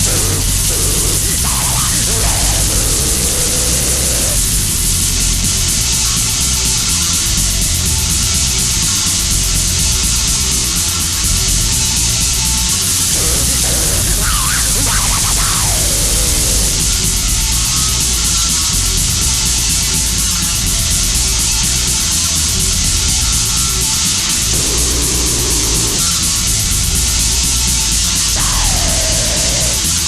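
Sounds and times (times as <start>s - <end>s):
harsh heavy metal noise music: 0.0s - 30.0s.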